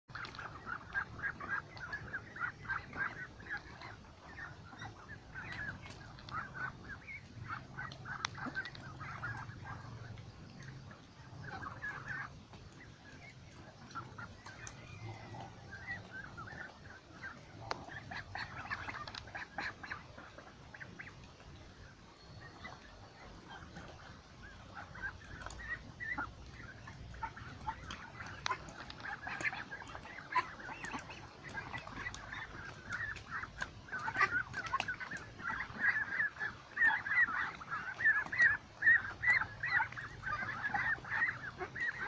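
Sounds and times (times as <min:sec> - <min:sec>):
ducks quacking: 0:00.1 - 0:42.0.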